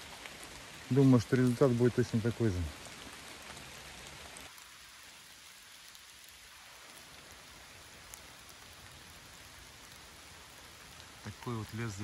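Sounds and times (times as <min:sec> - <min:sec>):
light rain in woods: 0:00.0 - 0:12.0.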